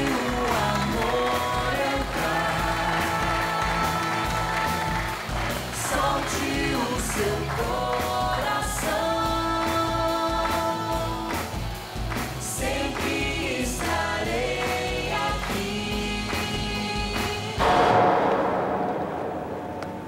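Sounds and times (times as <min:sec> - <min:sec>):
woman and man singing duet: 0:00.0 - 0:11.7, 0:12.3 - 0:17.9
band accompaniment: 0:00.0 - 0:20.0.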